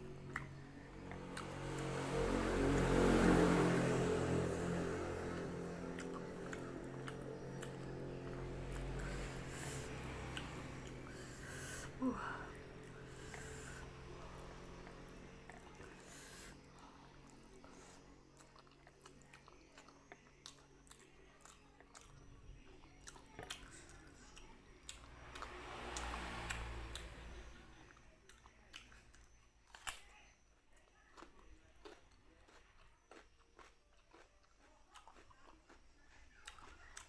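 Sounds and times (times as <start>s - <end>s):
close chewing: 0.0s - 27.1s, 27.9s - 37.0s.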